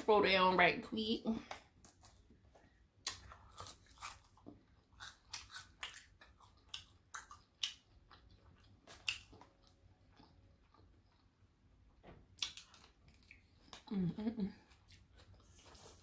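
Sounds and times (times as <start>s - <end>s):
person chewing crunchy food: 1.6s - 11.6s, 12.3s - 16.0s.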